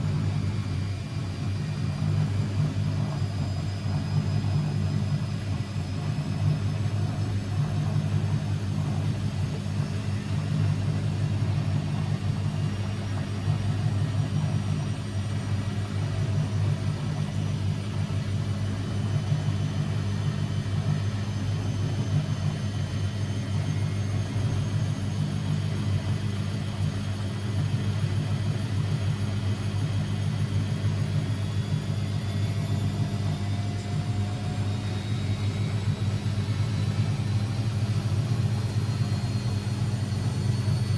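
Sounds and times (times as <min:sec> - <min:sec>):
faint high motor whine: 0:00.0 - 0:40.9
washing machine rumbling: 0:00.0 - 0:40.9.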